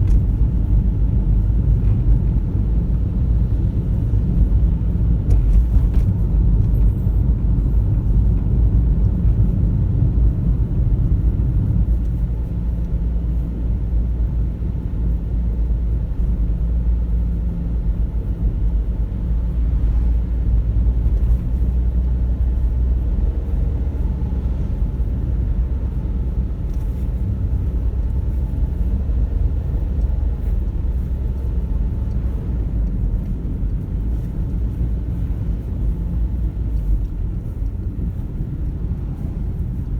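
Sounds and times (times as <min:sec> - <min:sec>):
car engine rumble: 0:00.0 - 0:39.9
tyre noise on road: 0:00.0 - 0:39.9.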